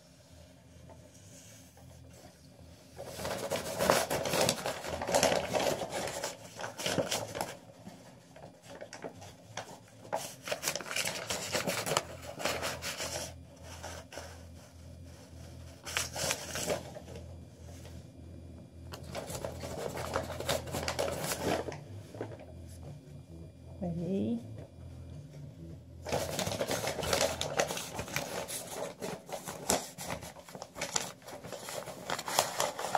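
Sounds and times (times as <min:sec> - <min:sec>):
paper scraping and rustling on carpet: 0:01.0 - 0:18.0, 0:19.0 - 0:22.8, 0:26.0 - 0:32.9.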